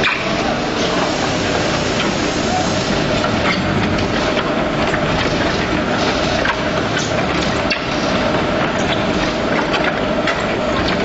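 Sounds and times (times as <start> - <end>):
concrete mixer pump running: 0.0 - 11.0.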